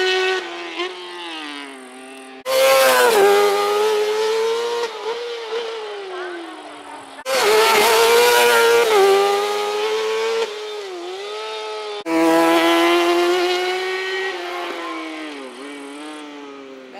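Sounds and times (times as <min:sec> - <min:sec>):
racing motorcycle engines revving high: 0:00.0 - 0:16.9.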